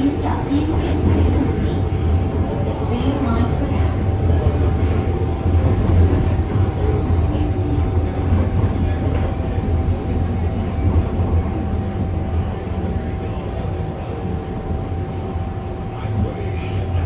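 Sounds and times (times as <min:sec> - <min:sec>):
mid-pitched train hum: 0:00.0 - 0:17.0
train wheels rumbling on rail: 0:00.0 - 0:17.0.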